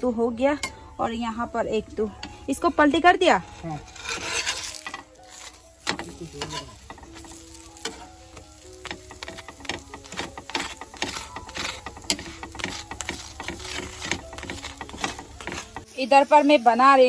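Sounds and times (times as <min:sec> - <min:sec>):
spatula scraping griddle: 0:02.2 - 0:16.0
flatbread sizzling on griddle: 0:02.2 - 0:17.0.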